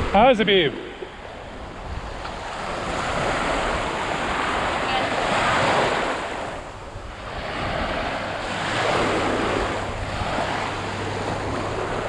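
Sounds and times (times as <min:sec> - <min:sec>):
small waves breaking: 0:00.0 - 0:12.0
wind buffeting microphone: 0:00.0 - 0:12.0.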